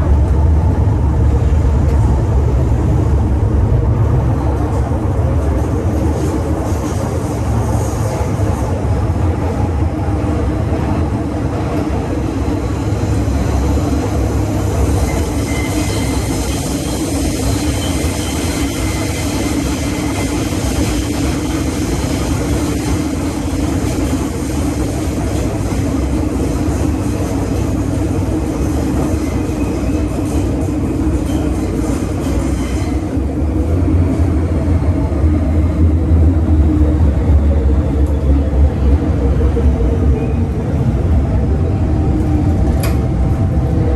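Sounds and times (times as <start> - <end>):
train wheels rumbling: 0.0 - 43.9.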